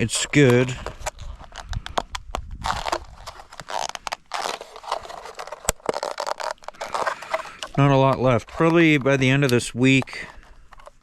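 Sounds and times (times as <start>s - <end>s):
scraping rustles: 0.0s - 11.0s
sharp clicks and crackling: 0.0s - 11.0s.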